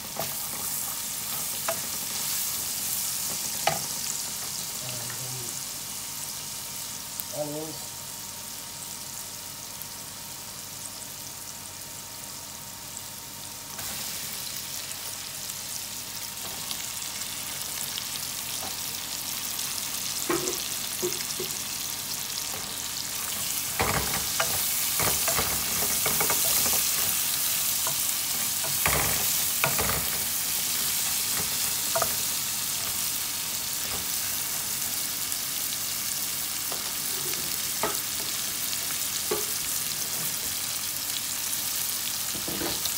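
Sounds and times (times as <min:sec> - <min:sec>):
onions sizzling in hot oil: 0:00.0 - 0:42.9.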